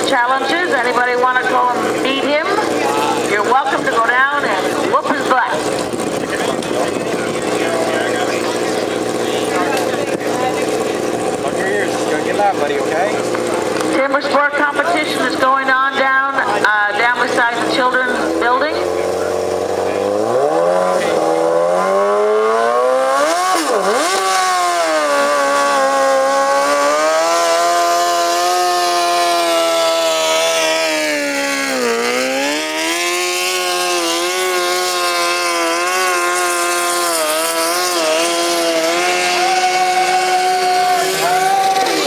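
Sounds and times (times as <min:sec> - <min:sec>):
lawn tractor engine revving: 0:00.0 - 0:42.0.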